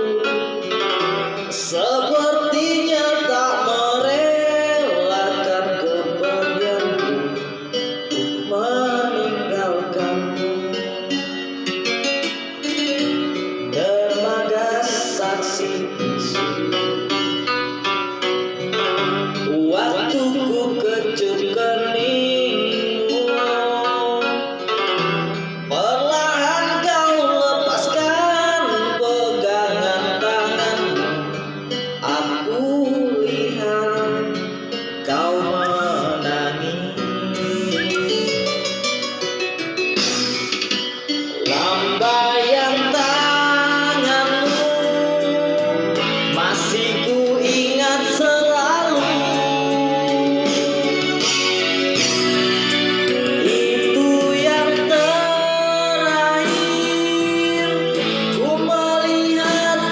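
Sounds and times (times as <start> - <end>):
person singing long sliding notes: 0.0 - 11.5, 18.1 - 24.9, 25.7 - 38.8, 41.3 - 59.9
instrumental accompaniment: 0.0 - 59.9.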